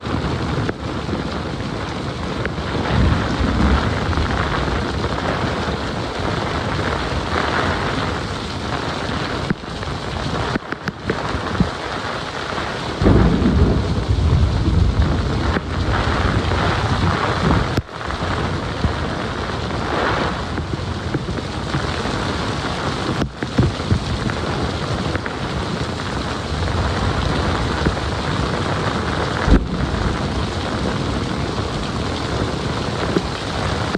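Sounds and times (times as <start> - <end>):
heavy rain falling: 0.0 - 33.9
thunder rolling: 2.4 - 9.4, 12.9 - 33.9.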